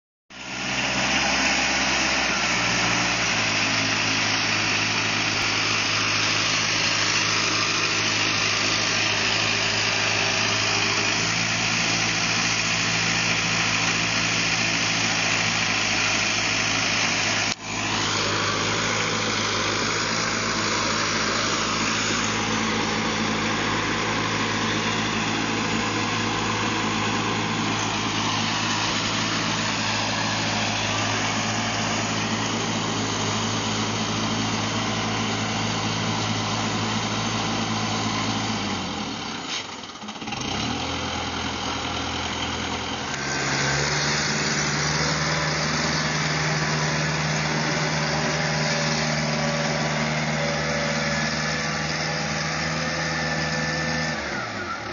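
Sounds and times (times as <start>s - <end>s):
engine running steadily: 0.3s - 54.9s.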